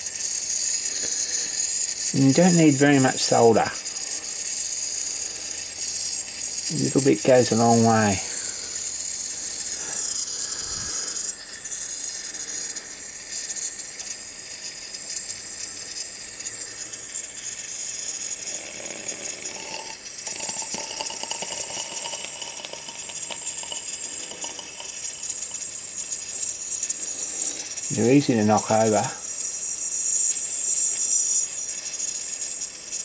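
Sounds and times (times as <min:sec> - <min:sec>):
gas torch hissing: 0:00.0 - 0:33.0.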